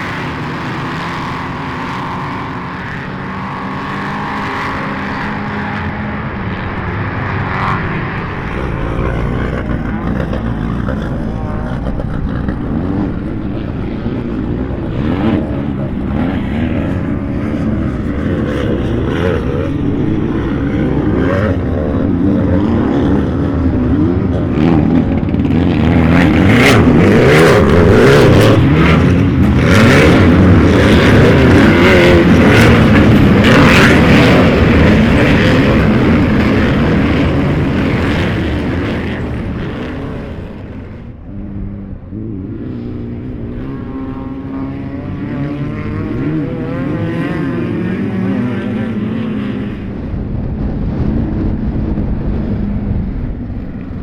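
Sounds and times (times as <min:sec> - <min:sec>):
racing off-road vehicle engines: 0:00.0 - 0:54.0.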